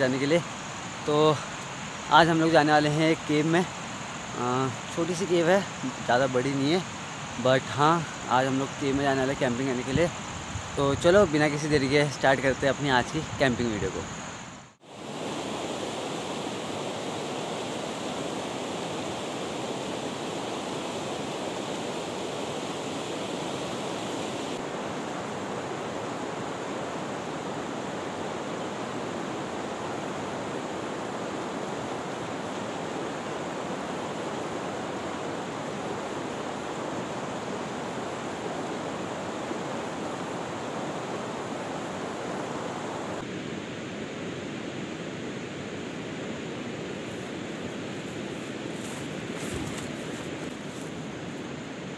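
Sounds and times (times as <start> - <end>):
fast-flowing water rushing: 0.0 - 43.3.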